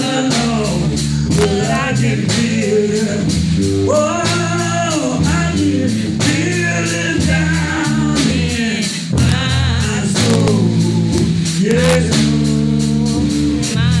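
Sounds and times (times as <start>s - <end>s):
drum kit steady beat: 0.0s - 14.0s
electric bass: 0.0s - 14.0s
man singing into a microphone: 0.0s - 14.0s.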